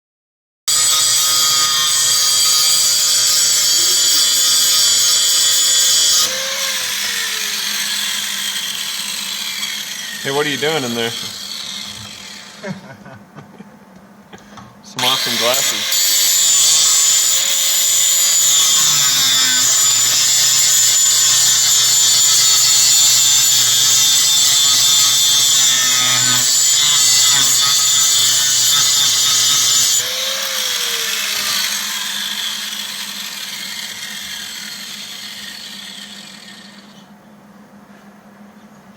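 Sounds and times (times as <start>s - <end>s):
power tool motor whining: 0.7s - 12.8s, 15.0s - 37.1s.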